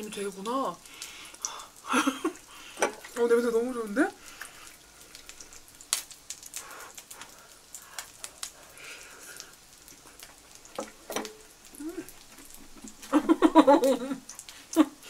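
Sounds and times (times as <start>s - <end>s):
butter sizzling in a frying pan: 0.0s - 15.0s.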